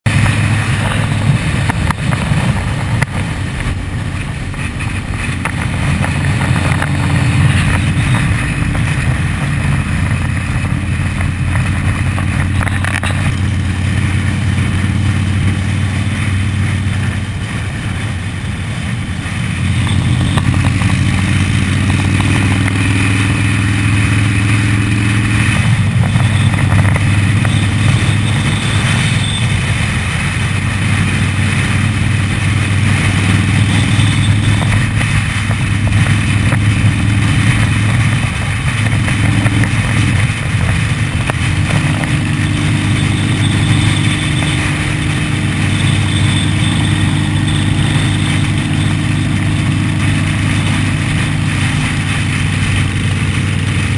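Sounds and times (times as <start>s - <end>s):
motorcycle engines running: 0.0s - 53.9s
wind rushing over microphone: 0.0s - 53.9s.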